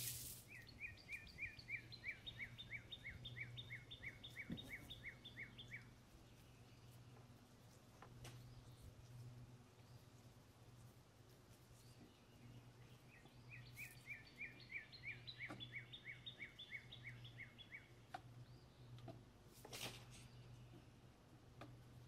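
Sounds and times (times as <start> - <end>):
faint songbird chirps: 0.0 - 22.0
low steady hum: 0.0 - 22.0.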